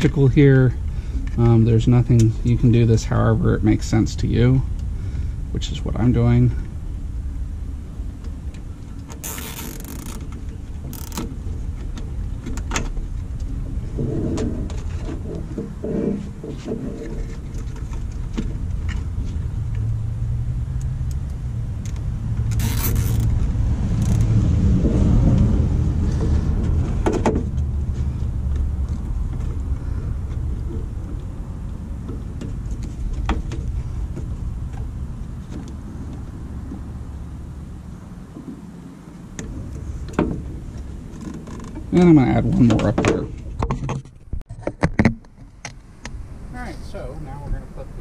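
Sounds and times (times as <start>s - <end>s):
distant engine rumble: 0.0s - 48.0s.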